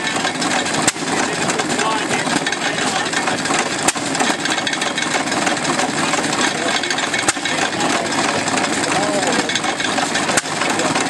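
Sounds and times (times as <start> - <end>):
small engines clattering: 0.0 - 11.0.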